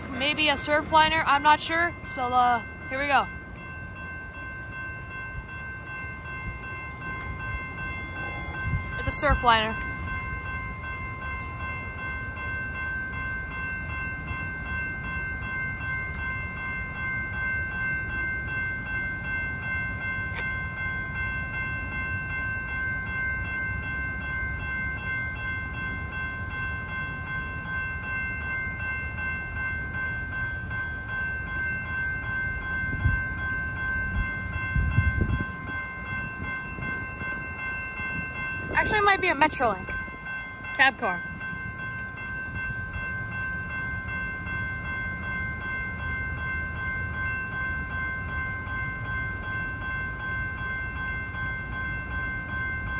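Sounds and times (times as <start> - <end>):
crossing warning bell ringing: 0.0 - 52.9.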